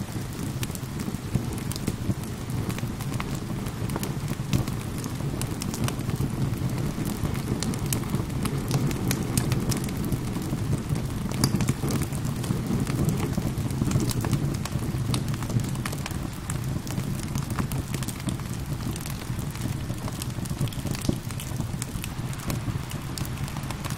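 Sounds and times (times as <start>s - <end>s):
rain falling: 0.0s - 23.9s
wood fire crackling: 0.0s - 23.9s.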